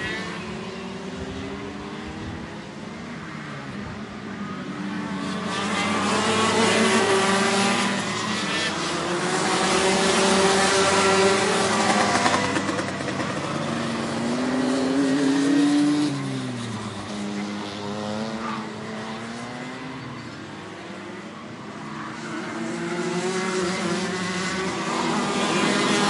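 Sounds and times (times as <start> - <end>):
racing engines passing by: 0.0 - 26.0.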